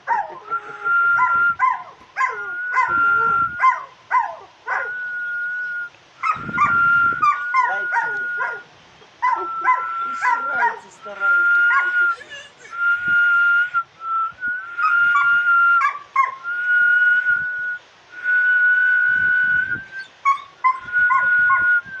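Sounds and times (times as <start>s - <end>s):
dog whining and howling: 0.0s - 5.6s, 6.2s - 13.9s, 14.6s - 16.5s, 19.6s - 22.0s
person whistling long notes: 0.4s - 1.7s, 2.3s - 3.6s, 4.8s - 8.6s, 9.4s - 20.1s, 20.7s - 22.0s.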